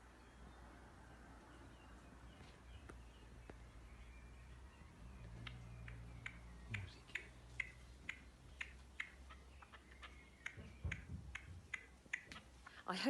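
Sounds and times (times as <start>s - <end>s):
bird call notes: 1.6s - 12.8s.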